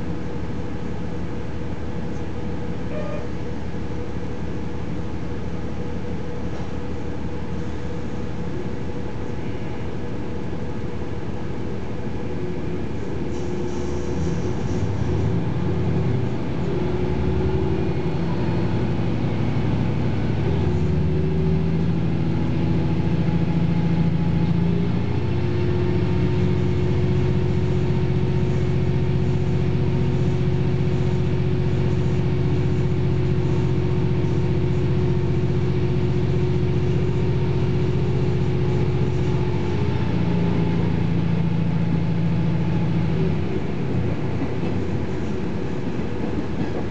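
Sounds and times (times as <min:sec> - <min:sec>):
diesel railcar engine drone: 0:00.0 - 0:46.9.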